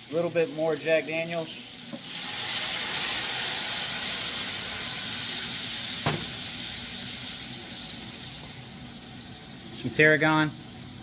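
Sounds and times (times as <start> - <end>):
fish sizzling in butter: 0.0 - 11.0.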